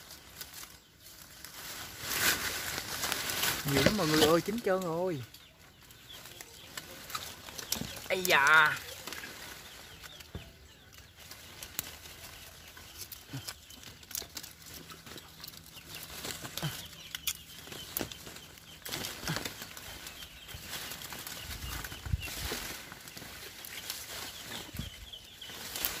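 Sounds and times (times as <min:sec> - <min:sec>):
leaves and twigs rustling: 0:00.0 - 0:26.0.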